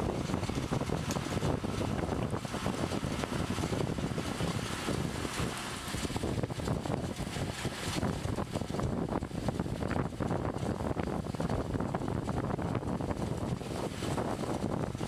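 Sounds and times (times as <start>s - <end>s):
muddy water sloshing and splashing: 0.0s - 15.0s
tractor diesel engine under load: 0.0s - 15.0s
wind buffeting microphone: 0.0s - 15.0s.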